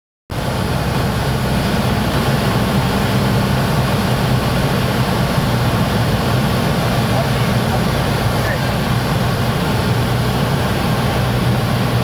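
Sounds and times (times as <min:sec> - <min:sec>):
light aircraft engine and propeller: 0:00.3 - 0:12.0.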